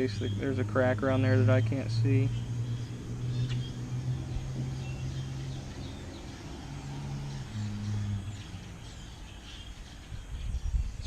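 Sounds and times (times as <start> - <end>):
vehicle engine driving by: 0.0 - 9.7
birds chirping: 0.0 - 11.0.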